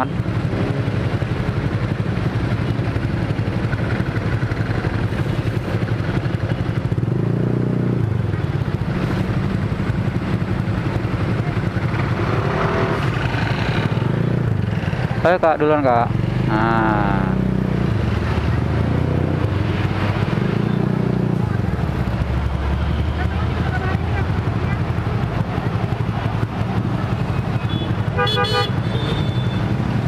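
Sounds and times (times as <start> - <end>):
scooter and motorcycle engines: 0.0 - 30.0.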